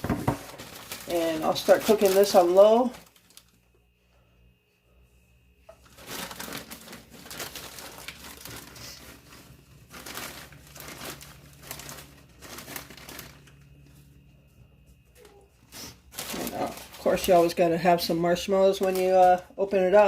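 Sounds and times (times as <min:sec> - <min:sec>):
plastic packaging crinkling: 0:00.0 - 0:03.6, 0:05.8 - 0:13.8, 0:15.2 - 0:20.0.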